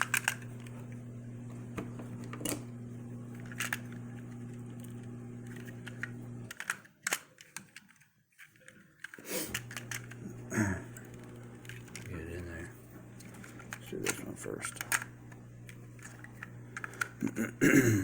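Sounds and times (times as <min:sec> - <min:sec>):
low electrical hum: 0:00.0 - 0:06.6, 0:09.5 - 0:18.0.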